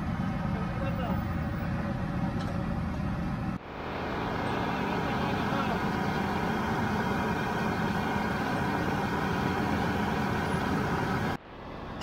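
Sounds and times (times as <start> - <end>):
traffic and engines: 0.0 - 12.0.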